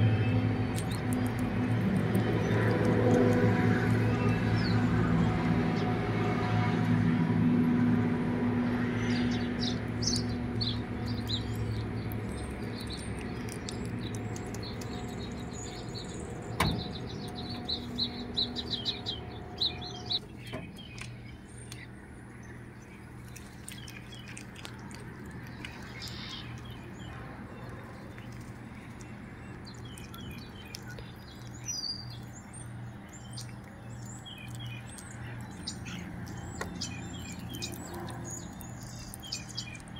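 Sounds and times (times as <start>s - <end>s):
small birds chirping: 0.0s - 6.0s, 8.6s - 39.9s
steady low hum: 0.0s - 39.9s.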